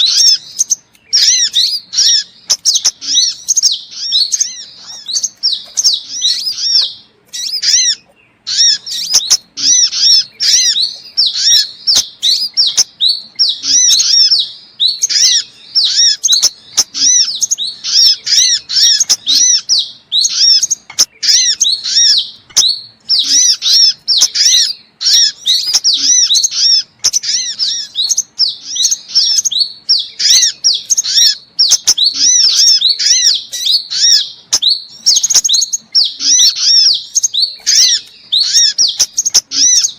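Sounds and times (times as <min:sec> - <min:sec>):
sunbird twittering chirps: 0:00.0 - 0:39.9.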